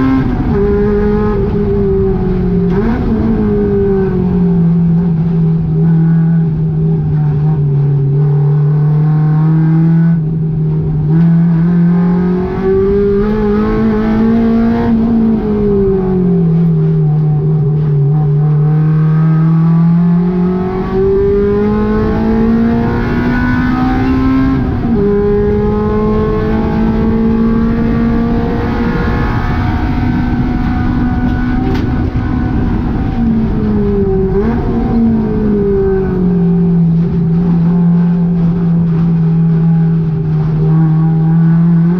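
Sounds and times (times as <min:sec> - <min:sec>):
car engine revving high: 0:00.0 - 0:41.9.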